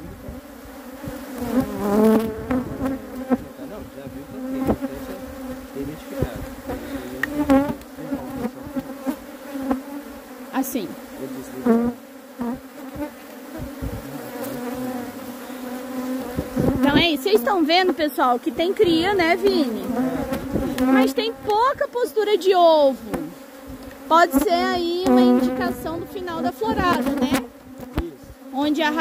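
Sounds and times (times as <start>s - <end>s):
bee whining past: 0.0s - 29.0s
bees humming: 0.0s - 29.0s.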